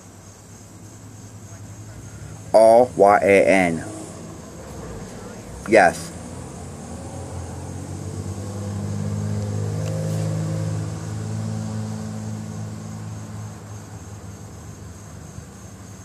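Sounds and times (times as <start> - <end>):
vehicle engine humming: 0.6 - 16.0.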